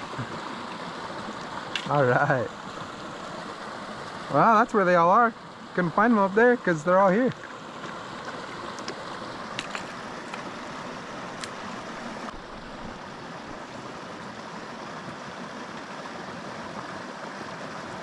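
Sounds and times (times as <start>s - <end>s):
creek splashing over rocks: 0.0s - 18.0s.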